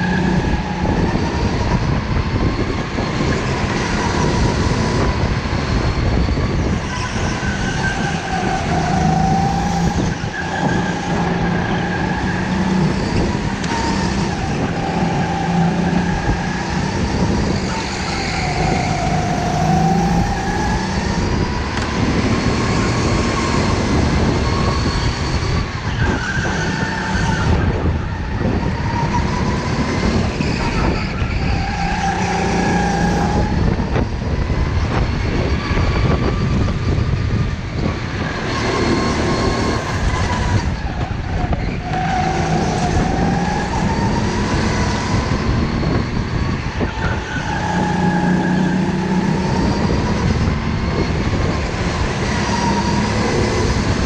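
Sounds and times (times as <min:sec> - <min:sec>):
go-kart motor revving: 0:00.0 - 0:54.0.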